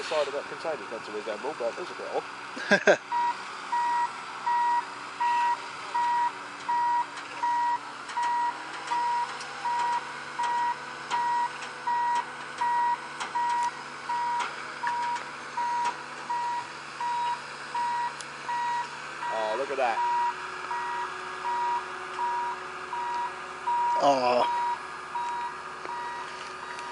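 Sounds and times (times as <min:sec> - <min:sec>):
machine engine humming: 0:00.0 - 0:26.9
reversing alarm beeping: 0:03.1 - 0:26.9.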